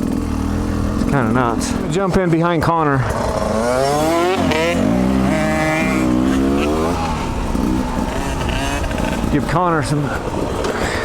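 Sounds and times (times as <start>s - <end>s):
two-stroke dirt bike engine revving: 0.0s - 11.0s.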